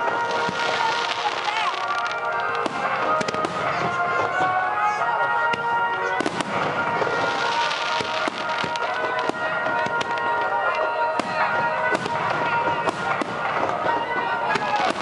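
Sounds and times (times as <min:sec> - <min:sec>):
fireworks bangs: 0:00.0 - 0:15.0
fireworks crackling: 0:00.0 - 0:15.0
music: 0:00.0 - 0:15.0.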